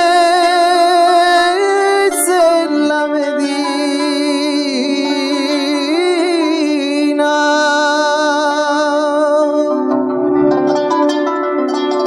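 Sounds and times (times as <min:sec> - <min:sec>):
ornamented melody with vibrato: 0:00.0 - 0:12.0.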